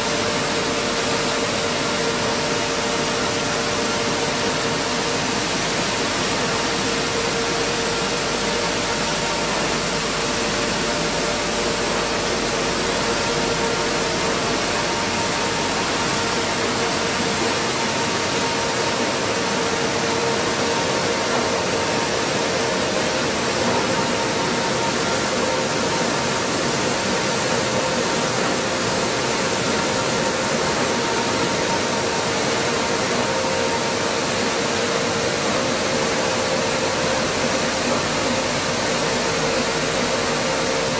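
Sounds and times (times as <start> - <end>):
mill machinery whirring: 0.0 - 40.9.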